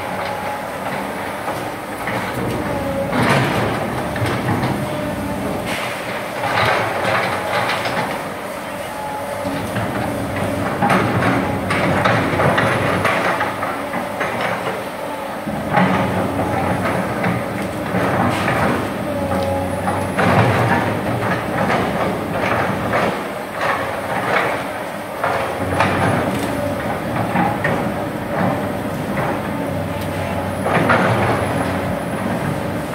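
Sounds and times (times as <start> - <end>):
excavator clanks and knocks: 0.0 - 32.9
excavator engine droning: 0.0 - 32.9.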